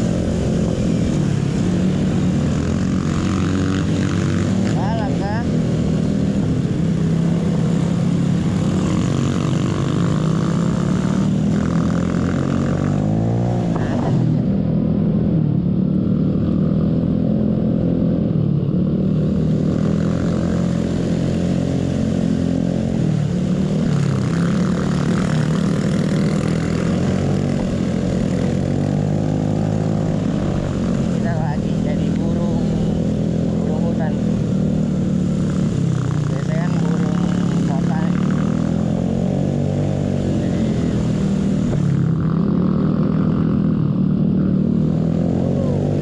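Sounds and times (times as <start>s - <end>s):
scooter engine revving: 0.0s - 14.5s, 16.2s - 46.0s.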